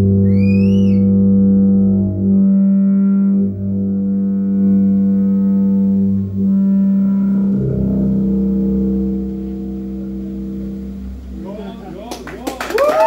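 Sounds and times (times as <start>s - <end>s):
rock band sustained notes: 1.0s - 13.0s.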